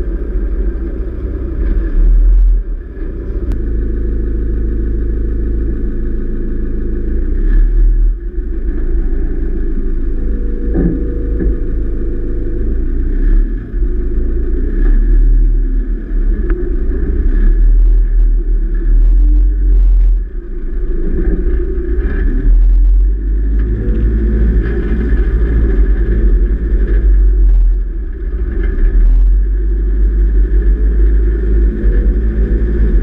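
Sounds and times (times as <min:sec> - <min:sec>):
heavy low rumble: 0:00.0 - 0:33.0
vehicle engine running: 0:00.0 - 0:33.0.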